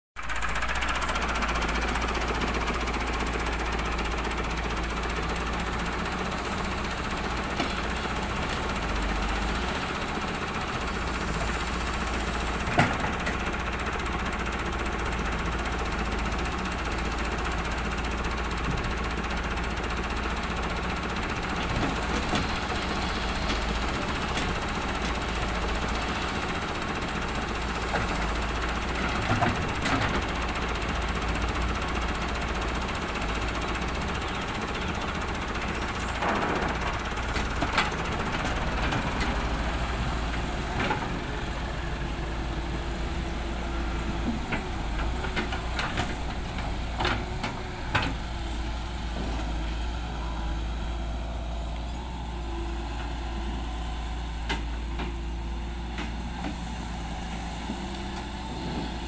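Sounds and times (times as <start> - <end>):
excavator diesel engine running: 0.2 - 59.0.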